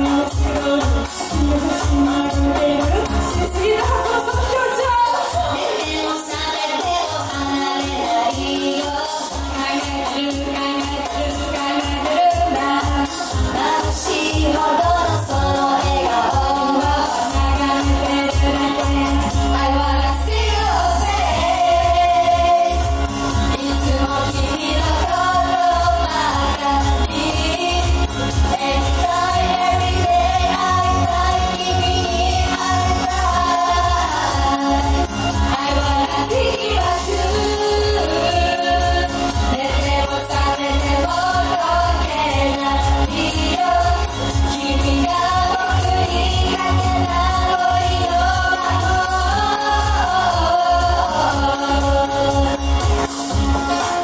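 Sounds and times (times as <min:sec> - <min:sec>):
female group vocals: 0:00.0 - 0:54.0
pop song with steady beat: 0:00.0 - 0:54.0.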